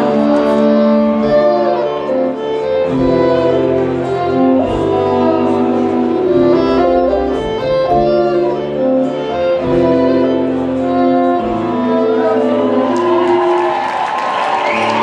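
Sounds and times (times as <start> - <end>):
fiddles playing held notes: 0.0 - 15.0.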